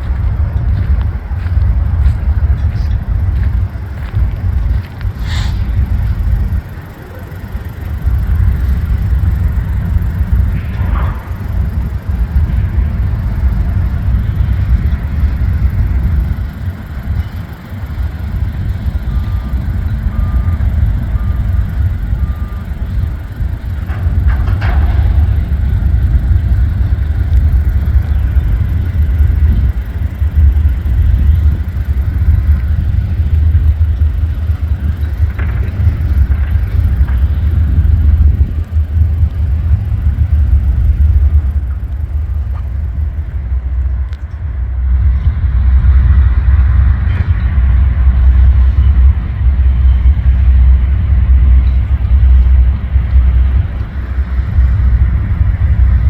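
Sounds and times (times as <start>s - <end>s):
train passing rumble: 0.0s - 56.0s.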